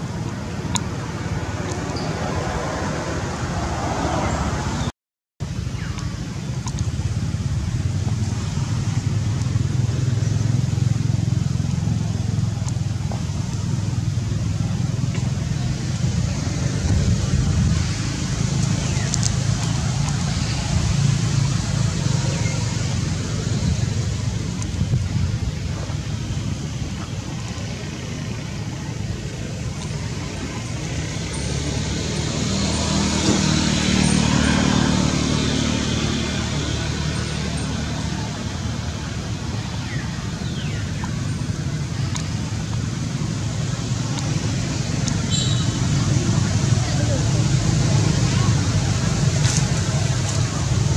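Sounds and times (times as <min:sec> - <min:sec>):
vehicle engine running: 0:05.8 - 0:50.9.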